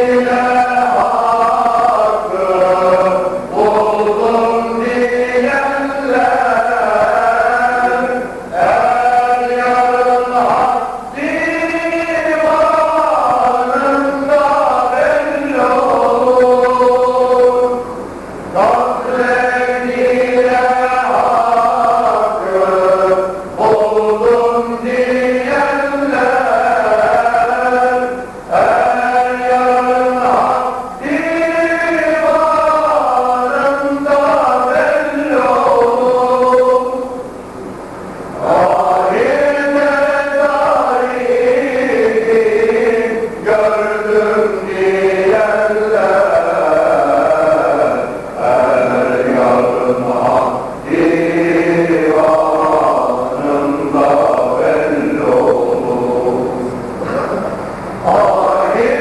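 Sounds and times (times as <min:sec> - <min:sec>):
male choir chanting a hymn: 0:00.0 - 0:37.4, 0:38.4 - 0:59.0.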